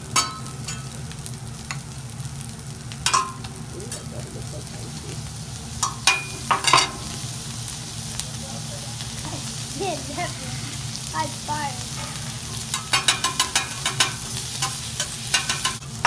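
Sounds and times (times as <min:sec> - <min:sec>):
rice sizzling on a griddle: 0:00.0 - 0:16.0.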